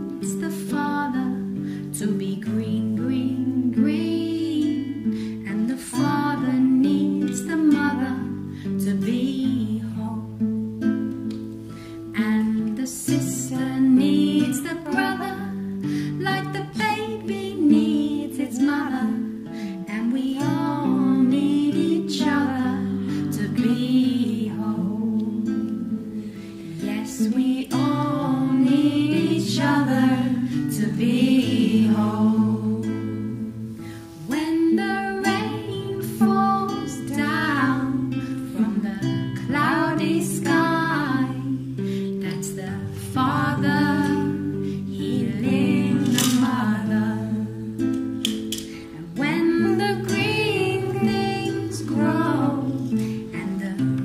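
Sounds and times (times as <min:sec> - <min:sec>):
person singing: 0:00.0 - 0:10.4, 0:12.2 - 0:54.0
strummed acoustic guitar: 0:00.0 - 0:54.0.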